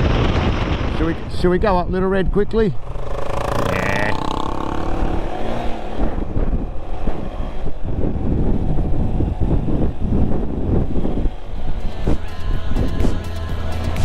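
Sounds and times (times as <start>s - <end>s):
off-road vehicle engine rumbling: 0.0s - 14.0s.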